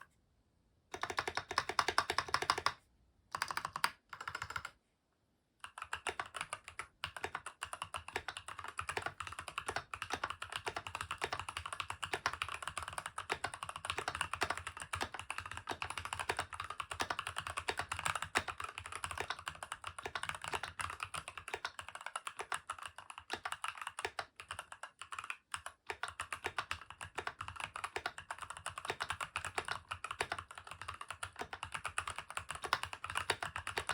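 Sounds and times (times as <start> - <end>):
fast typing on mechanical keyboard: 0.9 - 4.8, 5.6 - 33.9.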